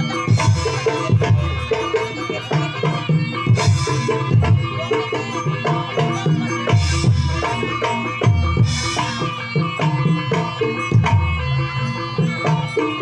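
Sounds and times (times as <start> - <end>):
hand drums rhythm: 0.0 - 13.0.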